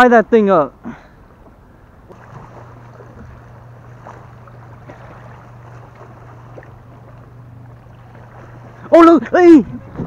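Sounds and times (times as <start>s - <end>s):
steady low hum: 0.7s - 10.0s
waves splashing against wood: 1.2s - 10.0s.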